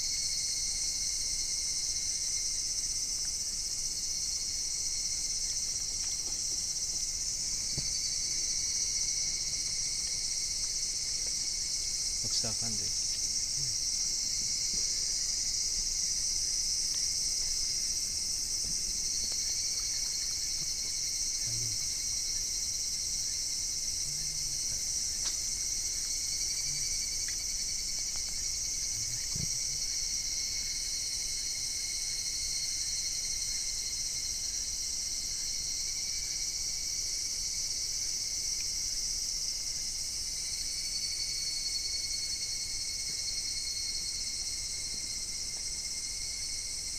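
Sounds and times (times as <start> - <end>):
insect chorus chirring: 0.0 - 46.9.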